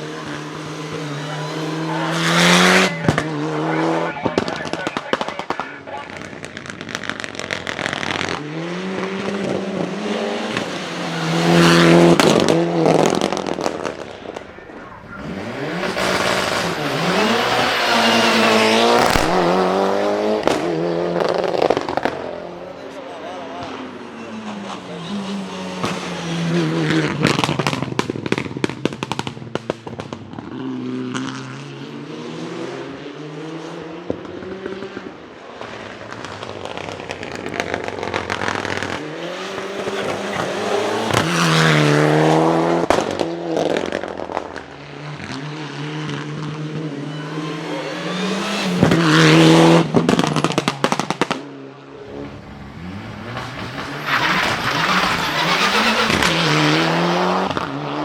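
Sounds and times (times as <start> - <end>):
exhaust bangs and pops: 0.0 - 25.0, 25.7 - 31.4, 34.0 - 47.0, 48.1 - 57.8
rally car engines revving: 0.0 - 58.0.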